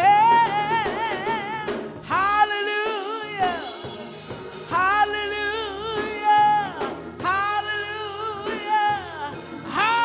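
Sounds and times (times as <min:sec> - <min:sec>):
sustained instrumental accompaniment: 0:00.0 - 0:10.0.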